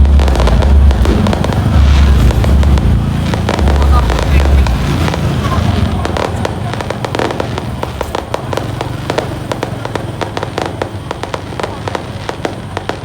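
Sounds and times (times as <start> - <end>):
fireworks popping: 0.0 - 13.0.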